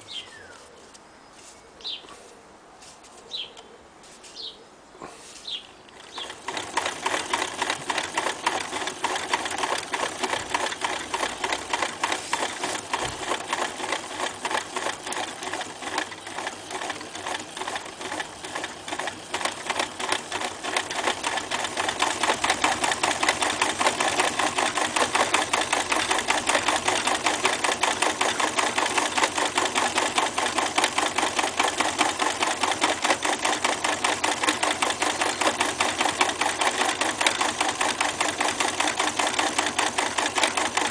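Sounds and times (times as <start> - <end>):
sewing machine stitching leather: 5.9 - 40.9.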